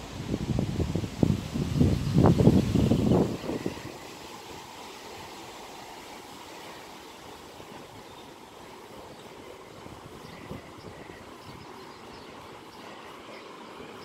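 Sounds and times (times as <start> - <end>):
river flowing: 0.0 - 14.0.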